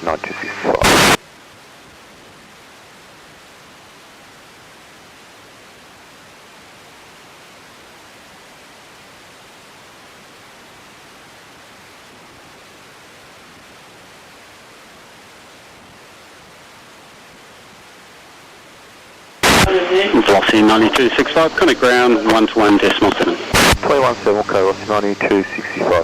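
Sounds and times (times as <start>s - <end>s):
radio static hiss: 0.0s - 5.5s, 9.4s - 26.0s.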